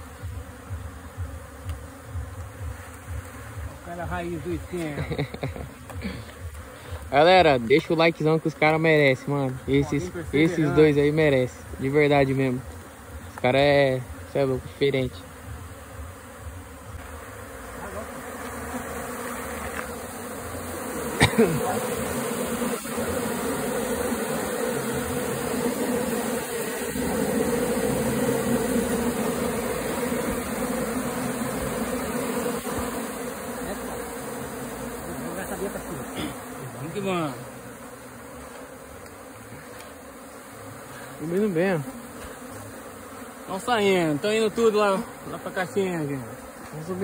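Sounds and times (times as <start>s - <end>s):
bee swarm buzzing: 0.0s - 47.0s.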